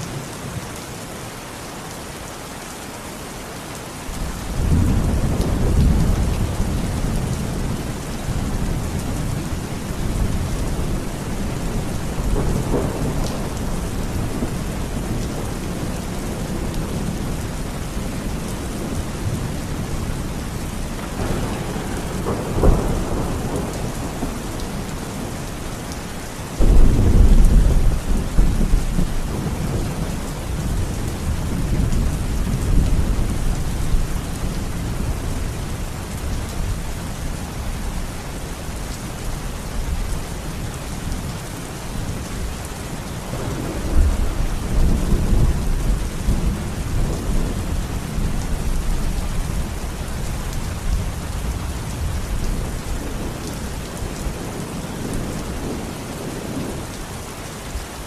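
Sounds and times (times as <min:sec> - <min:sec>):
heavy rain falling: 0:00.0 - 0:58.0
low rumble of thunder: 0:04.1 - 0:57.0.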